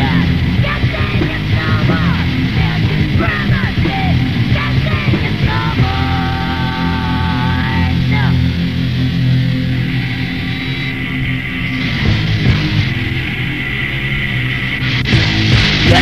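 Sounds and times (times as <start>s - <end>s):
distorted punk band music: 0.0s - 16.0s.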